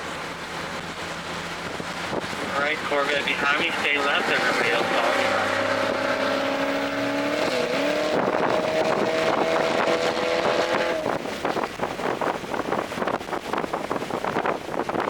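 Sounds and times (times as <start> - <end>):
car engine running at speed: 0.0 - 15.0
wind and road noise: 0.0 - 15.0.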